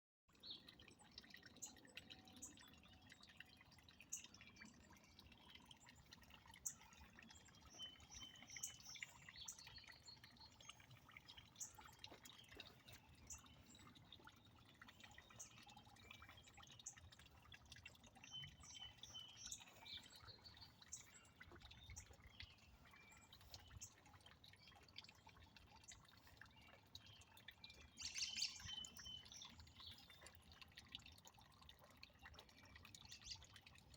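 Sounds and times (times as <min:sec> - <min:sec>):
water trickling into a pond: 0:00.3 - 0:33.9
birds chirping: 0:01.5 - 0:30.4.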